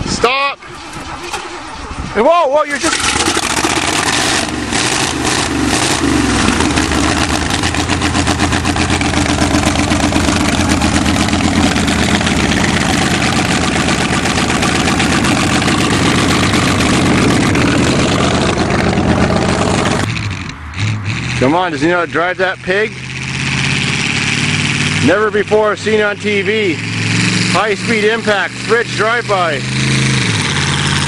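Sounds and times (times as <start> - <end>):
petrol engine running: 0.0 - 31.0.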